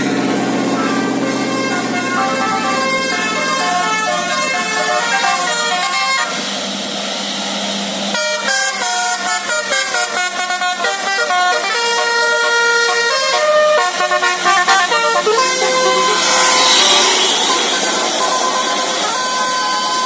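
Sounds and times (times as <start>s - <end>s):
multi-tone air horn melody: 0.0s - 6.5s, 8.1s - 20.0s
air hissing: 0.1s - 20.0s.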